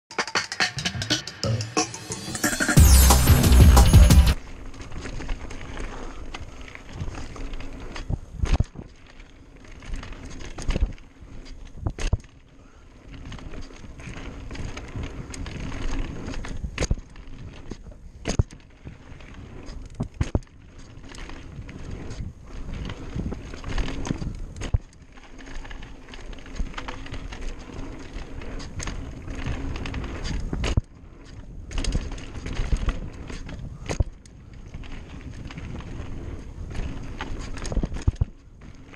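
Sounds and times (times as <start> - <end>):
bike knocking and rattling: 4.4 - 38.9
bike tyre rumble on dirt: 4.4 - 38.9.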